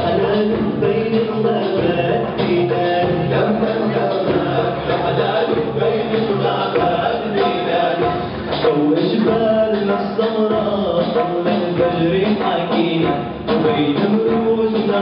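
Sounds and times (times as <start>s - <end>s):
man singing into microphone: 0.0s - 15.0s.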